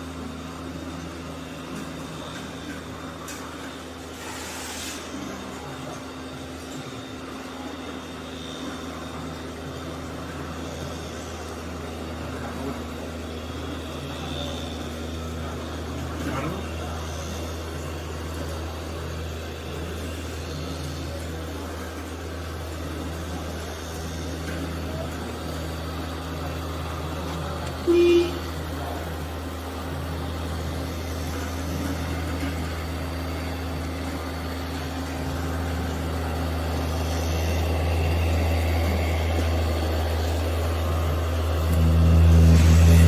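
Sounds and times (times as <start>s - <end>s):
vehicle engine droning: 0.0s - 43.0s.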